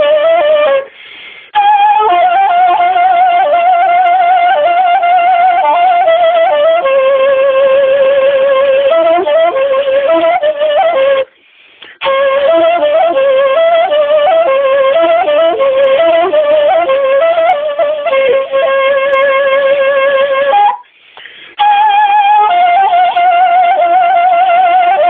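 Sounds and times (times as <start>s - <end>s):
end-blown flute melody: 1.6s - 11.3s, 12.0s - 20.8s, 21.6s - 25.0s.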